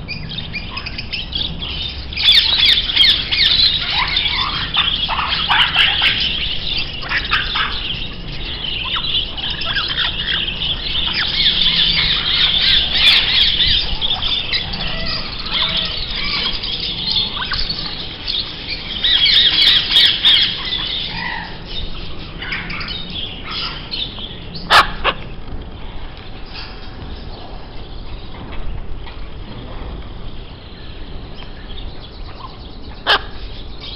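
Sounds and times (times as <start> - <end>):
birds chirping and squawking: 0.0 - 33.9.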